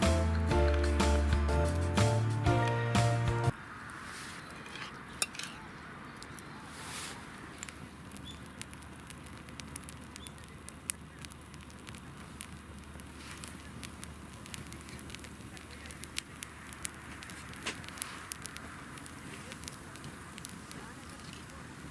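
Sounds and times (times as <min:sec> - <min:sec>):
campfire crackling and popping: 0:00.0 - 0:21.9
low steady hiss: 0:00.0 - 0:21.9.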